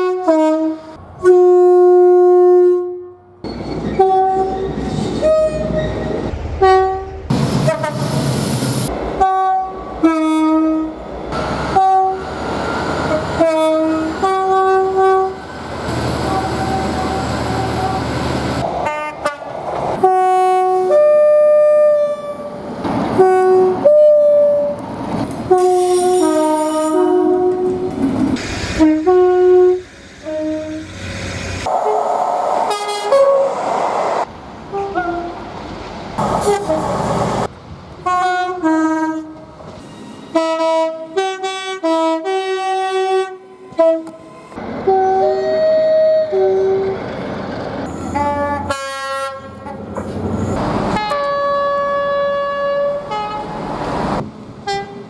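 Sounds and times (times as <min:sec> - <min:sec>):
two-tone train horns: 0:00.0 - 0:05.9, 0:09.2 - 0:18.2, 0:18.8 - 0:31.0, 0:31.6 - 0:33.6, 0:34.7 - 0:35.4, 0:36.2 - 0:37.4, 0:38.0 - 0:39.5, 0:40.3 - 0:47.0, 0:47.8 - 0:50.0, 0:50.9 - 0:53.8, 0:54.5 - 0:55.0
trains passing: 0:00.0 - 0:55.0.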